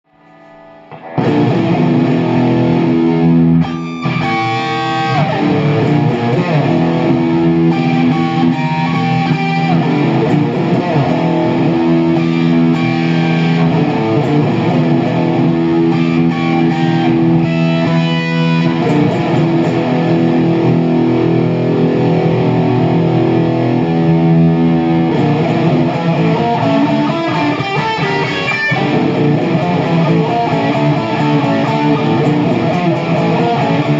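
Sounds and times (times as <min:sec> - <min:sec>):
guitar music: 0:00.1 - 0:33.9.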